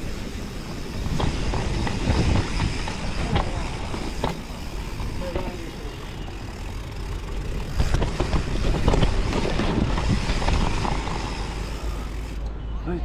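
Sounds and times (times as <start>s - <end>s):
mountain bike clattering on trail: 0.0s - 12.5s.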